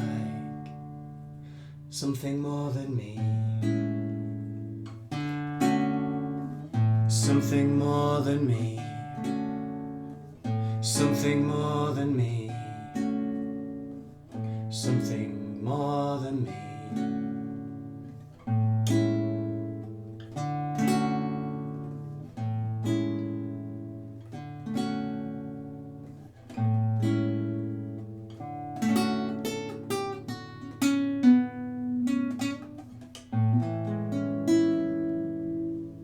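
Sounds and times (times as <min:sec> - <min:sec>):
acoustic guitar chords ringing: 0:00.0 - 0:36.0
picked guitar notes: 0:00.0 - 0:36.0.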